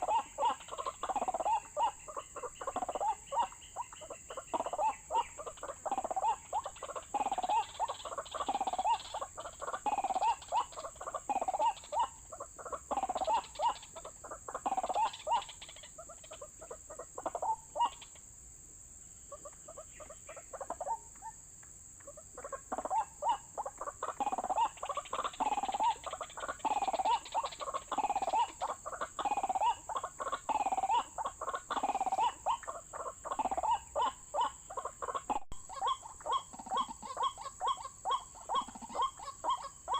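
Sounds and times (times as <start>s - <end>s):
waterhen croaking calls: 0.0s - 18.2s, 19.3s - 21.4s, 22.0s - 39.9s
steady high-pitched hiss: 0.0s - 39.9s.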